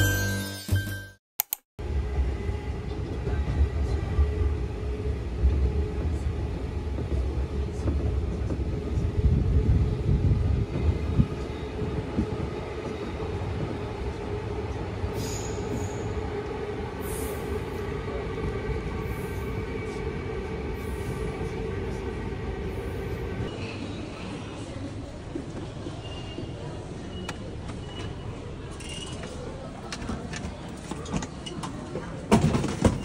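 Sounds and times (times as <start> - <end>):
subway train rumble: 1.8 - 33.0.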